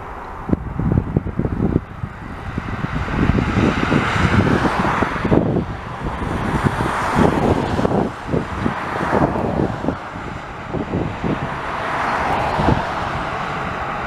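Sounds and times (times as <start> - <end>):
jet engine roar on takeoff: 0.0 - 14.0
wind buffeting microphone: 0.0 - 14.0.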